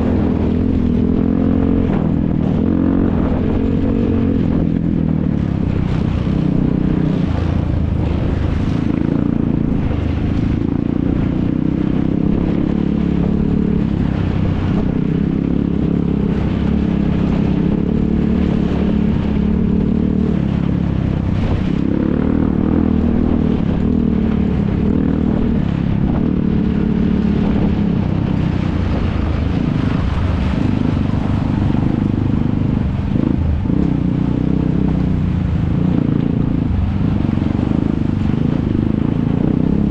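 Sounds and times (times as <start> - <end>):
quad bike engines running: 0.0 - 39.9.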